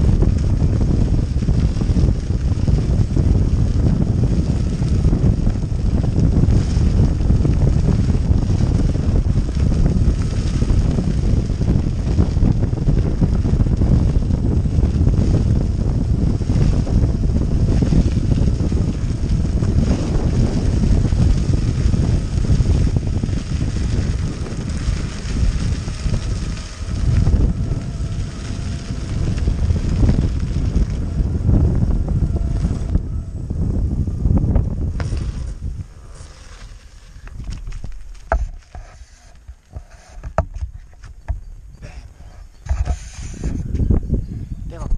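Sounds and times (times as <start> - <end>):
skateboard wheels rumbling on dirt: 0.0 - 44.9
wind buffeting microphone: 0.0 - 44.9.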